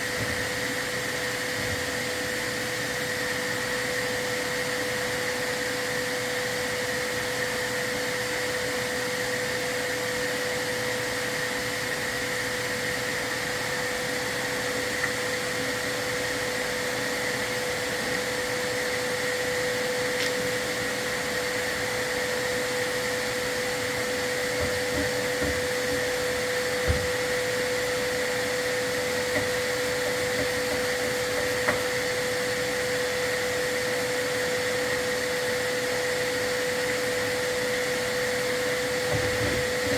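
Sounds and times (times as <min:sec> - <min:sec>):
vacuum whining: 0:00.0 - 0:39.9.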